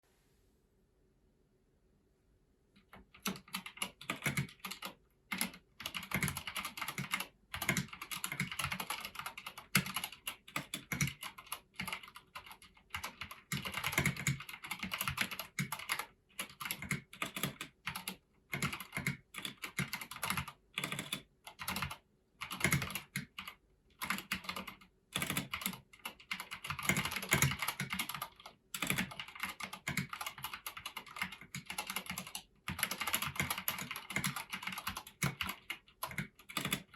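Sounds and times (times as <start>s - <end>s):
mechanical keyboard typing: 2.8s - 36.9s.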